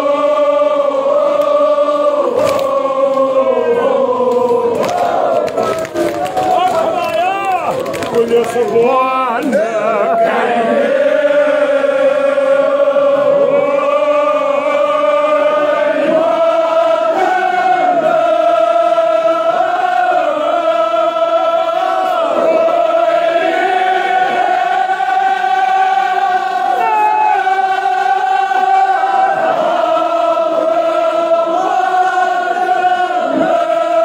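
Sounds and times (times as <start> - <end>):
men chanting together: 0.0 - 34.0.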